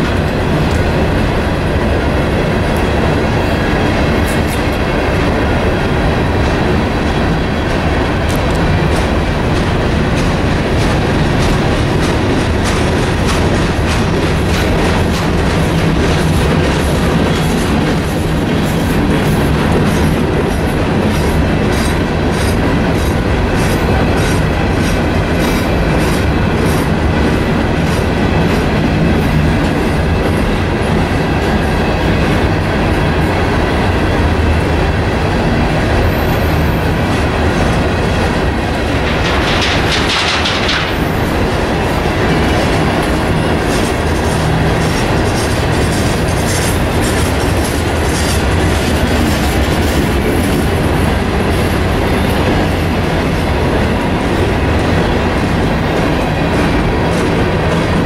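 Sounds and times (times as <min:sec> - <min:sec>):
freight train rumble: 0:00.0 - 0:58.0
wheels clickety-clack: 0:00.0 - 0:58.0.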